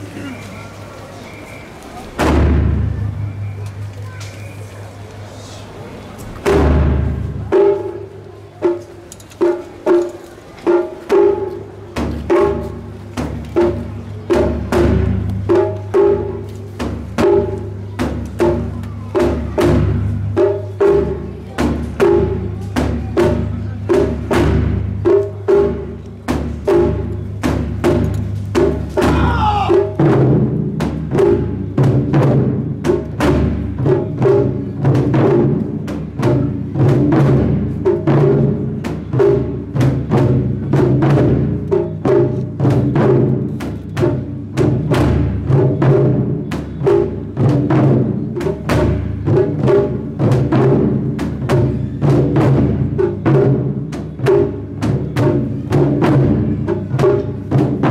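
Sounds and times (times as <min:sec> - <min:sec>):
taiko drumming: 0:02.1 - 0:03.4, 0:06.3 - 0:57.9.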